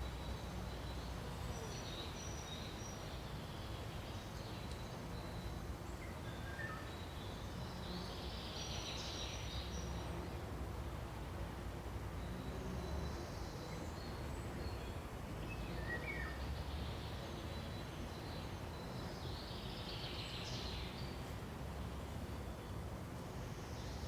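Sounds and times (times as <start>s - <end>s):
low forest hiss and rumble: 0.0s - 24.0s.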